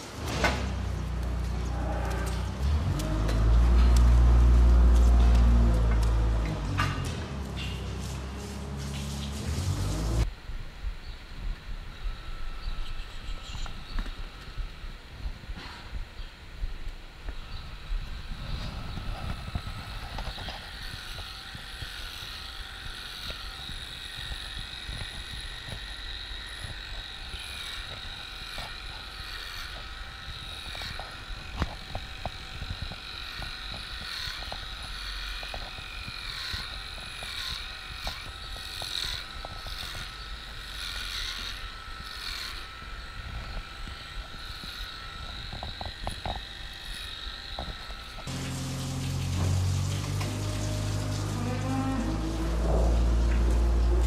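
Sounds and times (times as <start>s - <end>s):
electric clipper whining: 0.0s - 15.8s, 16.8s - 54.0s.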